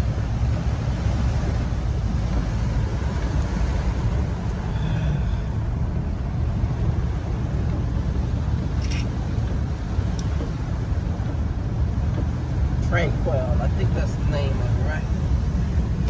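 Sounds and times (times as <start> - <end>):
car engine and tyres on wet road: 0.0 - 16.0.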